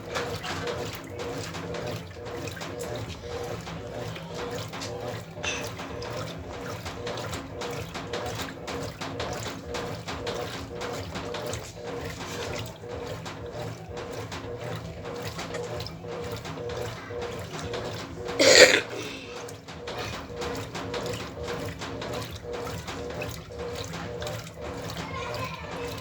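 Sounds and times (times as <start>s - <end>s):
low motor hum: 0.0s - 26.0s
water sloshing in washing machine: 0.0s - 26.0s.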